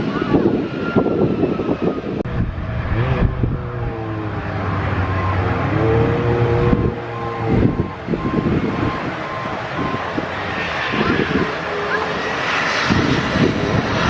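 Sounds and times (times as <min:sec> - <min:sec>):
passing vehicle engine hum: 0:02.2 - 0:14.0.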